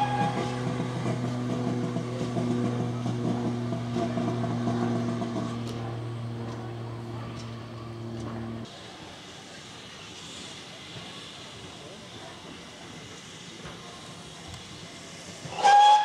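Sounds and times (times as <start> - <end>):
diesel locomotive engine idling: 0.0 - 16.0.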